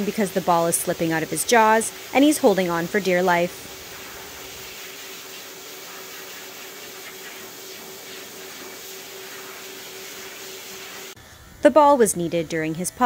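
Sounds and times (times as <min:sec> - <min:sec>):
pet dryer air rush: 0:00.0 - 0:11.2
motor hum: 0:00.0 - 0:13.0.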